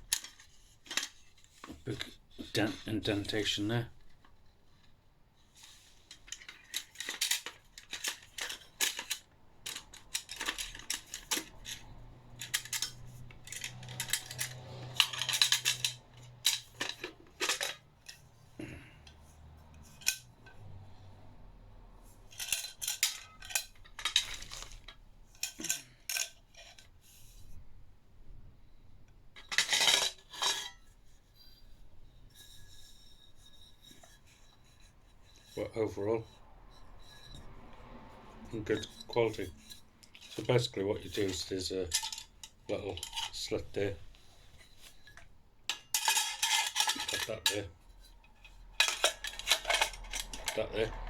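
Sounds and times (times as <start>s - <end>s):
metal parts clinking: 0.0s - 4.2s, 5.6s - 20.6s, 22.0s - 27.2s, 29.4s - 31.6s, 32.3s - 37.5s, 38.4s - 51.0s
metal scraping on metal: 5.5s - 27.7s, 29.4s - 51.0s.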